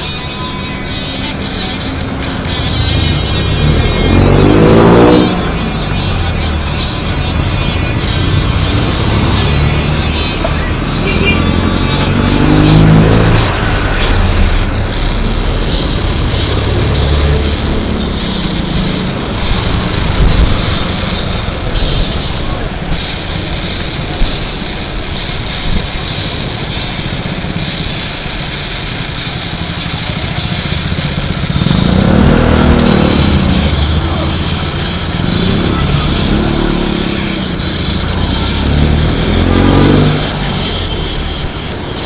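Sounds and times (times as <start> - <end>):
road noise: 0.0 - 42.0
vehicle engine passing: 0.0 - 42.0
wind: 0.0 - 42.0.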